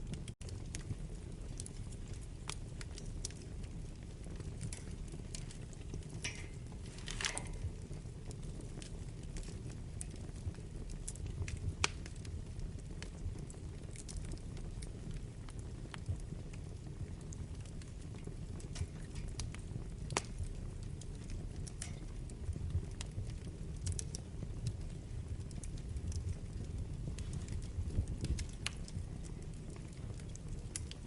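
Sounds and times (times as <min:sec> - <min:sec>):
fire crackling and popping: 0:00.0 - 0:31.0
fire rumbling: 0:00.0 - 0:31.0.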